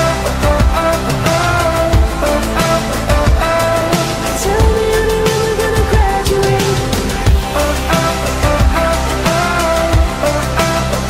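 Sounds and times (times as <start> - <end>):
pop song with drum beat: 0.0 - 11.0.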